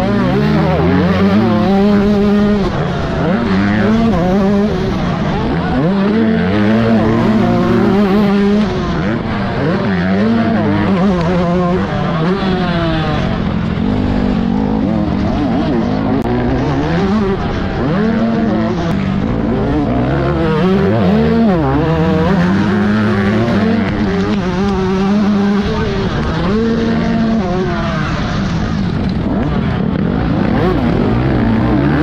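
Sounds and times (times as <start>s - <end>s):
two-stroke motorcycle engine revving: 0.0s - 32.0s.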